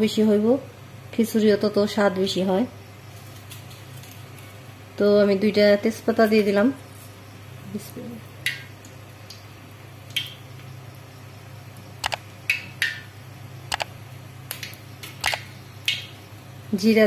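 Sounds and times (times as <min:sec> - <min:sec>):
leaves frying in crackling oil: 0:01.2 - 0:17.0.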